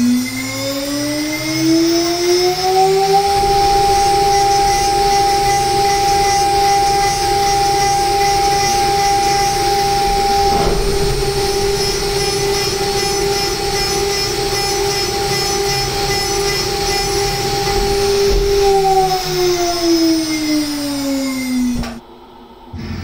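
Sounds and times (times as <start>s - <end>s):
mill spindle whining: 0.0s - 23.0s.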